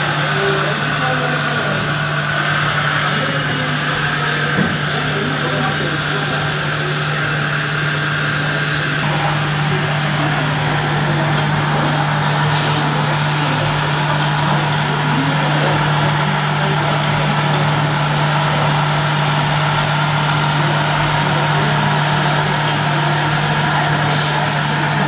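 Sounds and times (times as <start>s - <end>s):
hall background noise: 0.0s - 25.0s
truck engine hum: 0.0s - 25.0s.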